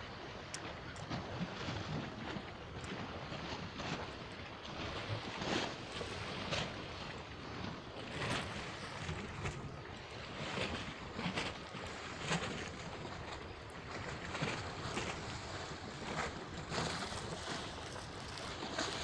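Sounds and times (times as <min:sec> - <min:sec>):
seawater lapping and splashing: 0:00.0 - 0:19.0
wind noise on microphone: 0:00.0 - 0:19.0.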